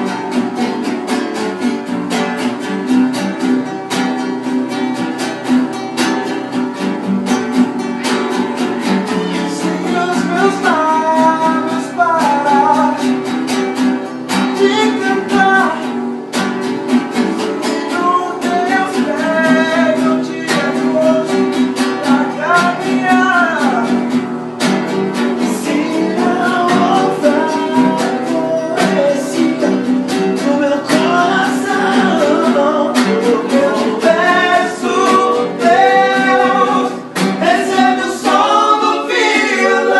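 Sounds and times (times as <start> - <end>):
acoustic guitar playing a hymn: 0.0 - 39.9.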